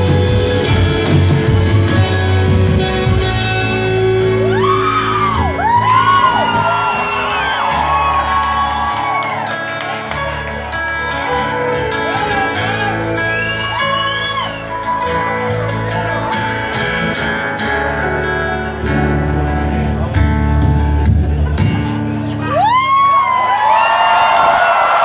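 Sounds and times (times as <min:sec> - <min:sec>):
live rock band playing: 0:00.0 - 0:23.7.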